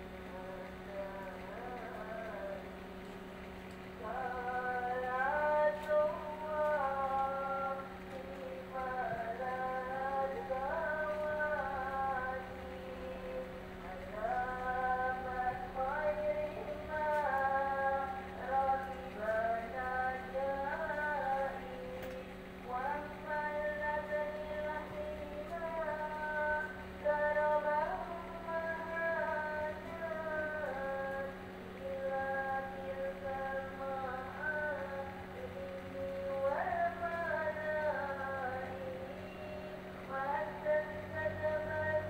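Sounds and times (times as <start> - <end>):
steady low hum: 0.0 - 42.0
woman singing with music: 0.0 - 42.0.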